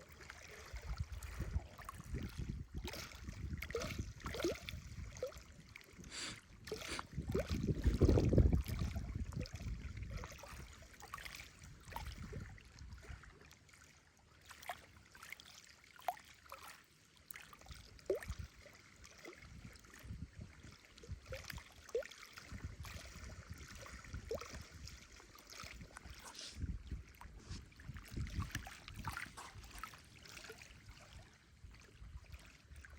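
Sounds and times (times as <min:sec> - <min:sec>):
small waves lapping on shore: 0:00.0 - 0:32.9.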